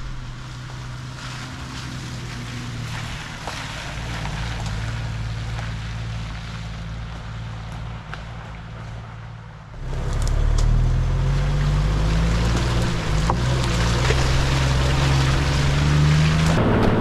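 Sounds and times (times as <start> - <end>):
tyre and road noise: 0.0 - 17.0
vehicle engine drone: 0.0 - 17.0.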